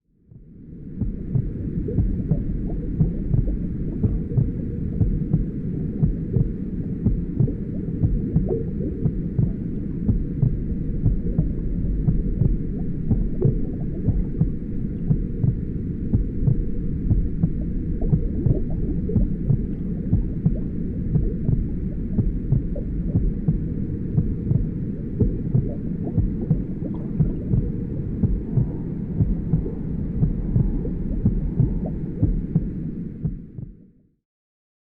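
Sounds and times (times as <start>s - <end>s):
low filtered white noise: 0.2s - 34.0s
muffled heartbeat: 0.3s - 34.0s.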